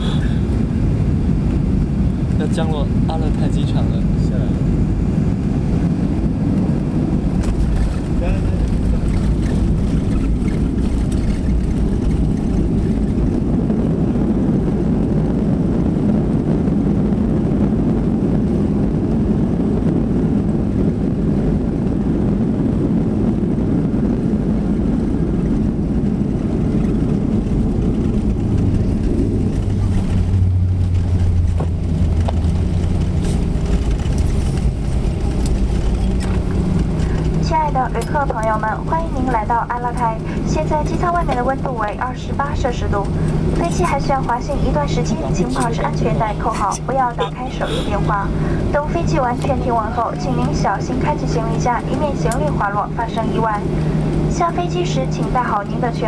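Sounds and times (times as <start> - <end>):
airliner cabin engine rumble: 0.0 - 56.0
deep hum: 0.0 - 56.0.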